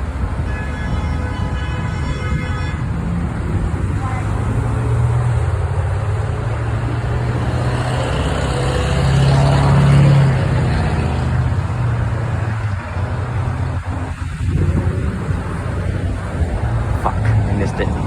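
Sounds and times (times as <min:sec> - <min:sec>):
car engine and road drone: 0:00.0 - 0:18.0.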